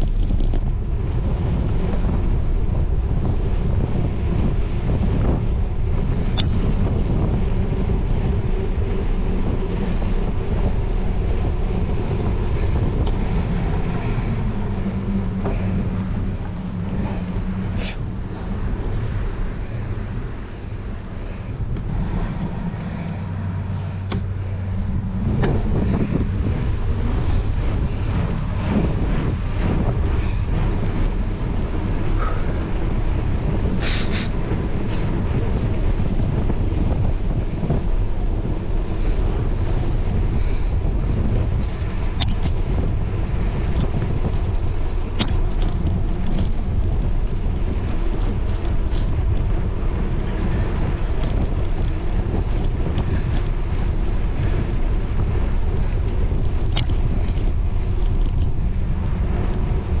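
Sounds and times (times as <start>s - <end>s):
low rumble of travelling on tarmac: 0.0s - 60.0s
wind buffeting microphone: 0.0s - 60.0s.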